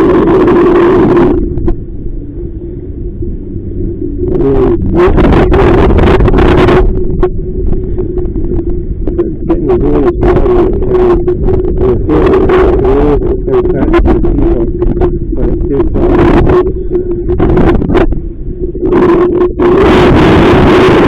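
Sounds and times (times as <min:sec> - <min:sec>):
gusts of rushing wind: 0:00.0 - 0:21.0
wind buffeting microphone: 0:00.0 - 0:21.0.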